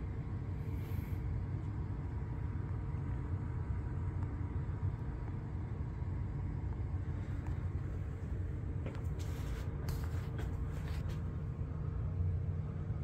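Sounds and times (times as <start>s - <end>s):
ceiling fan low rumble: 0.0s - 13.0s
faint motor hum: 0.0s - 13.0s.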